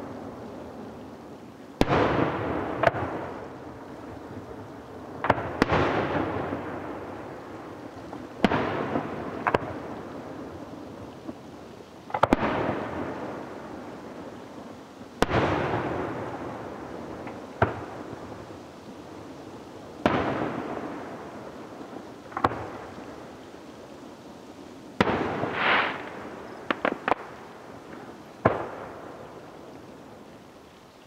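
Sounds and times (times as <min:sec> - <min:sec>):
fireworks bursting with rumbling tail: 0:00.0 - 0:30.6.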